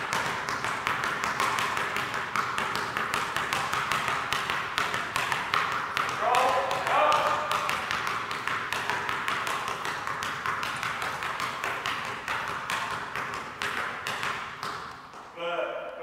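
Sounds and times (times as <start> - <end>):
basketballs bouncing on wooden floor: 0.0 - 16.0.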